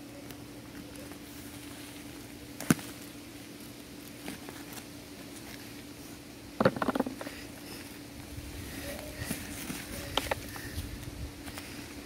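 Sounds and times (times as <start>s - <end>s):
crackly rustling: 0.0s - 12.0s
faint steady hum: 0.0s - 12.0s.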